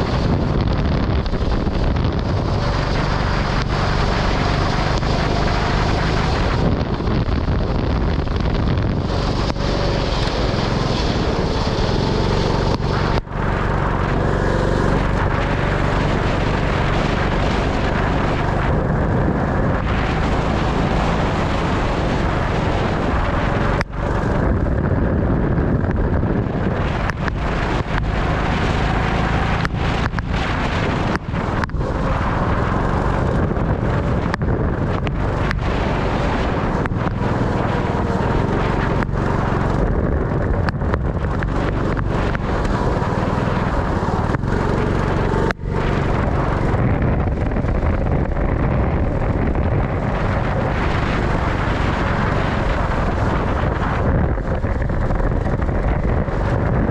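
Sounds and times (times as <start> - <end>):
kart engine running: 0.0 - 56.9
wind buffeting microphone: 0.0 - 56.9.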